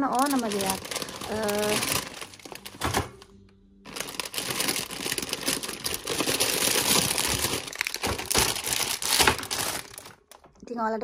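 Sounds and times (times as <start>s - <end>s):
plastic packets crinkling: 0.0s - 3.3s, 3.9s - 10.6s.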